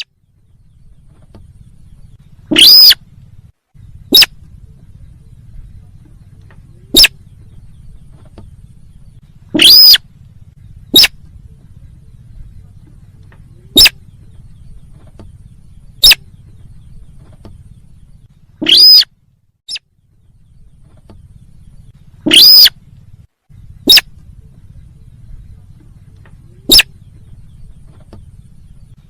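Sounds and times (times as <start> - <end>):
bird calls: 0.0 - 29.0
faint low hum: 0.0 - 29.0.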